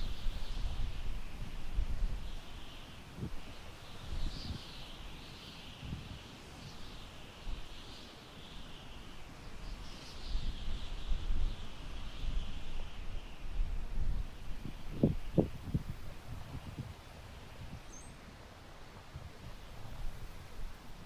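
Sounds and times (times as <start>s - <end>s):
wind gusting through grass: 0.0s - 21.0s.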